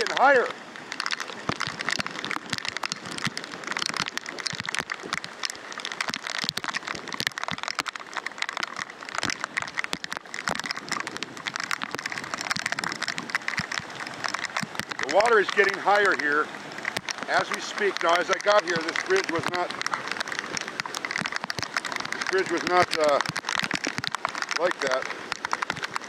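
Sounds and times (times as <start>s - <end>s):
heavy rain: 0.0s - 26.0s
raindrops ticking on microphone: 0.0s - 26.0s.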